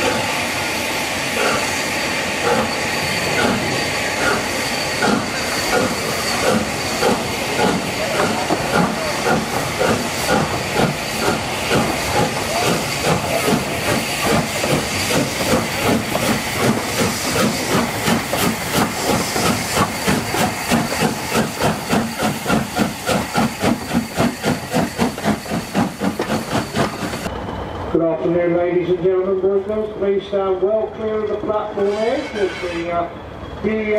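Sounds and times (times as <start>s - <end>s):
steam hissing: 0.0s - 27.3s
steam locomotive exhaust beats: 0.0s - 28.0s.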